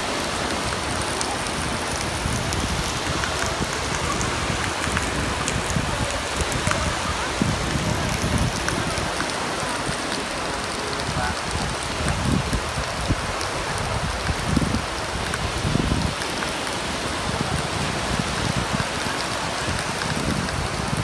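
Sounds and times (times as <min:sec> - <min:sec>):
waves breaking on shore: 0:00.0 - 0:21.0
wind on microphone: 0:00.0 - 0:21.0.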